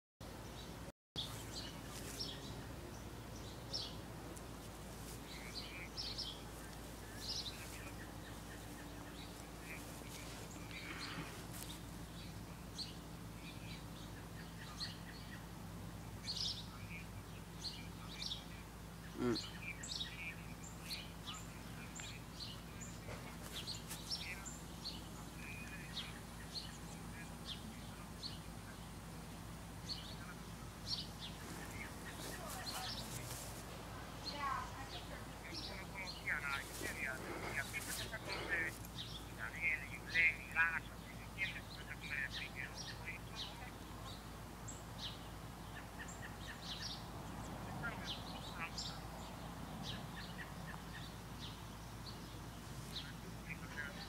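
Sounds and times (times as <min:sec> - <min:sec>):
small birds chirping: 0:00.3 - 0:54.0
steady low hum: 0:00.3 - 0:54.0.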